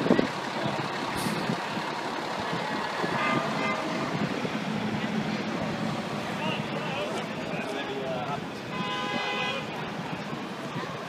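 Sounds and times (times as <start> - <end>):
diesel trucks rumbling in traffic: 0.0 - 11.0.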